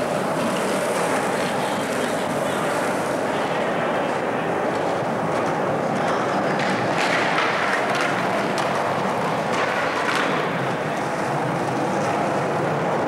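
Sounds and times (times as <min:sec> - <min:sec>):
skateboard clacks: 0:00.0 - 0:13.0
skateboard wheels on concrete: 0:00.0 - 0:13.0.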